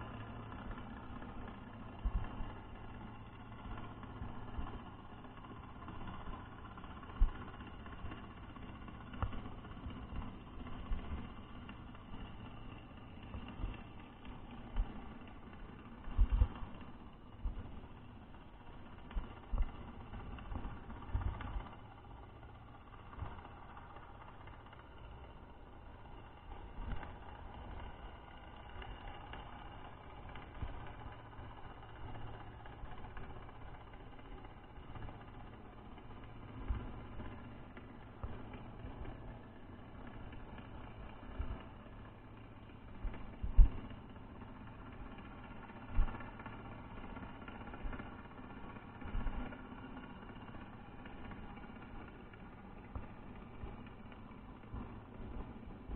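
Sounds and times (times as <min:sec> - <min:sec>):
underwater low drone: 0:00.0 - 0:55.9.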